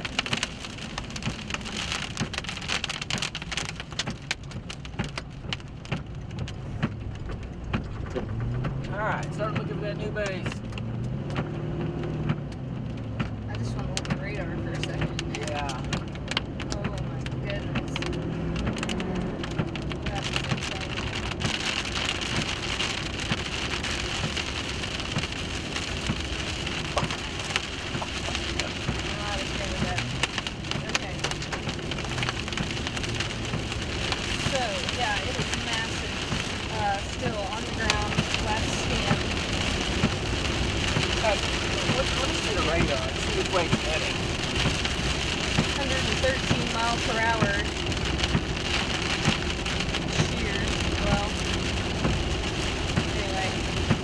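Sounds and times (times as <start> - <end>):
heavy rain on vehicle: 0.0 - 54.0.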